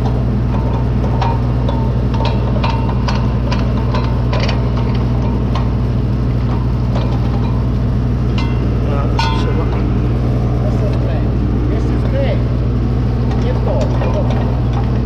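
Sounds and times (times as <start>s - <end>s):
large diesel engine idling: 0.0s - 15.0s.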